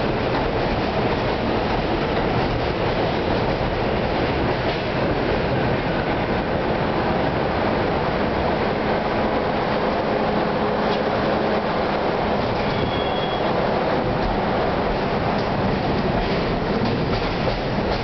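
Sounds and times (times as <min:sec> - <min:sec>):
subway train rumbling on rails: 0:00.0 - 0:18.0.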